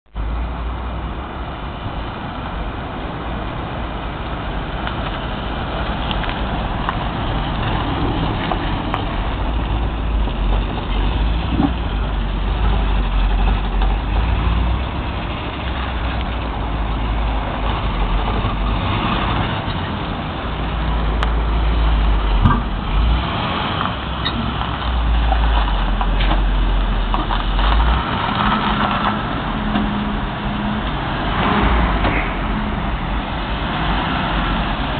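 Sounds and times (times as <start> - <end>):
engine low rumble: 0.1 - 34.9.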